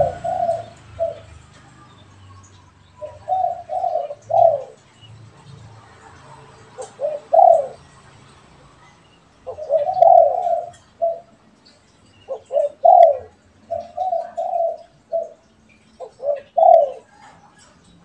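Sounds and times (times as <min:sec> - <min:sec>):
doves cooing: 0:00.0 - 0:08.0, 0:09.4 - 0:18.0.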